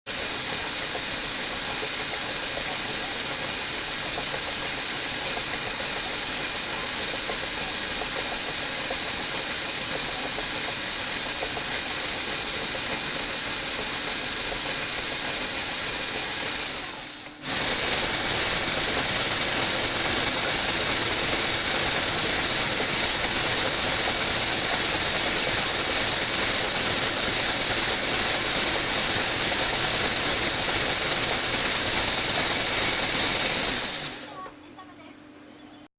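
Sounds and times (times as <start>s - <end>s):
toy motors whirring: 0.1s - 34.5s.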